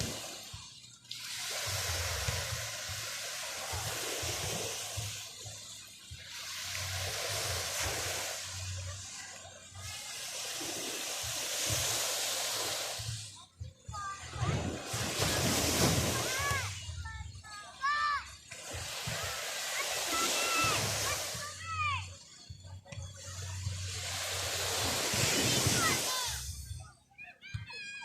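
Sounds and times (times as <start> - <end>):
sea waves breaking on shore: 0.0 - 26.8.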